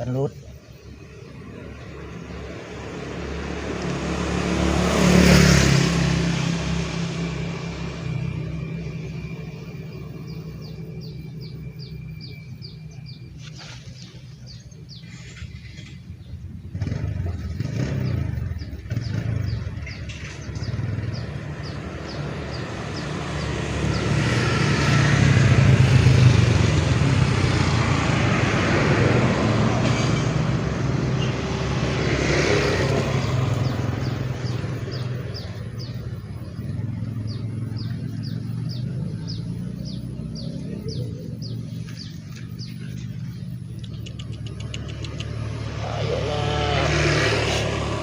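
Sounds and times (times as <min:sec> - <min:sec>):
motor vehicle passing by: 0:00.0 - 0:48.0.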